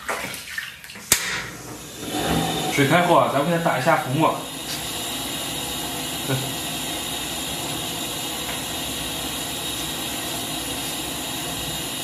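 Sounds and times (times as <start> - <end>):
water boiling in a pot: 1.0 - 12.0
gas burner hissing: 1.1 - 12.0.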